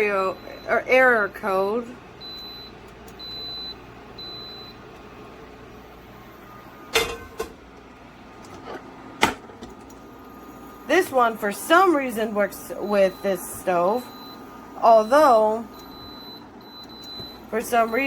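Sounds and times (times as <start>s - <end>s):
cooktop alarm beeping: 0.0s - 7.5s, 10.0s - 18.0s.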